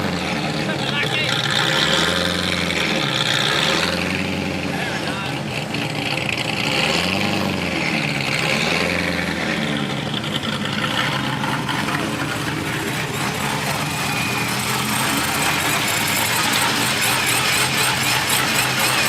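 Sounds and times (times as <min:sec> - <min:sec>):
car engines idling: 0:00.0 - 0:19.0.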